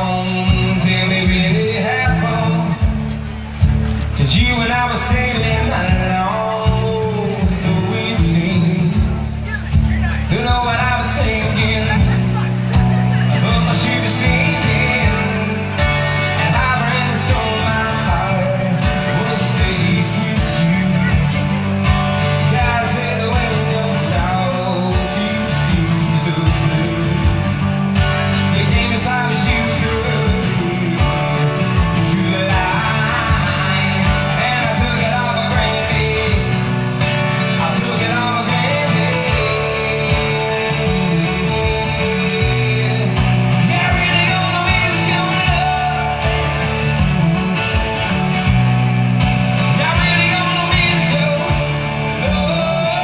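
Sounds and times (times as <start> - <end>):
acoustic guitar through pa: 0.0 - 53.0.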